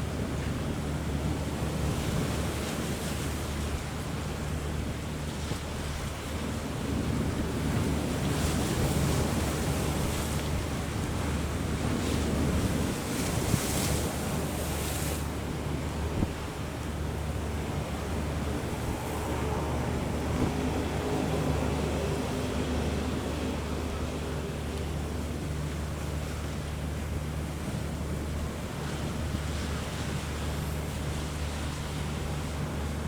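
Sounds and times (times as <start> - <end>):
sea waves breaking: 0.0 - 33.0
wind buffeting microphone: 0.1 - 33.0.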